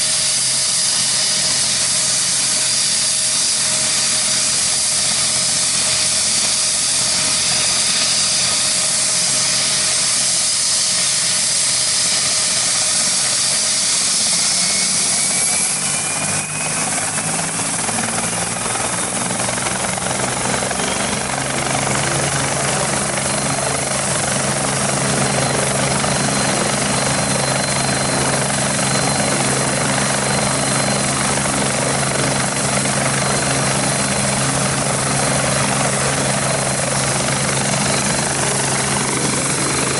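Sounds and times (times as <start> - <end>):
helicopter deep steady hum: 0.0 - 39.9
helicopter turbine hiss and whine: 0.0 - 39.9.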